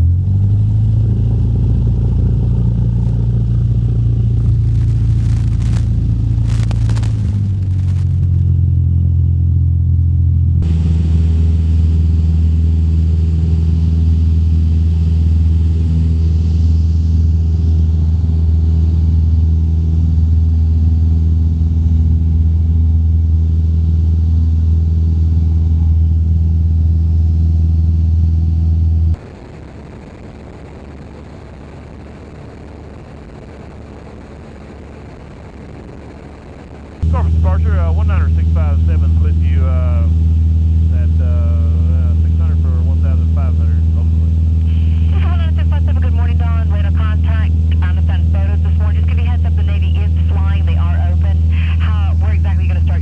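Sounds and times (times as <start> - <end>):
airplane engine drone: 0.0 - 53.0.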